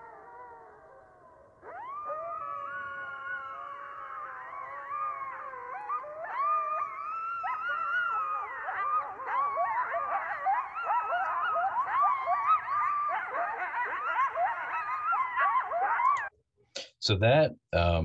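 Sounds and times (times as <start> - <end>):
coyotes howling and yipping: 0.0 - 16.3.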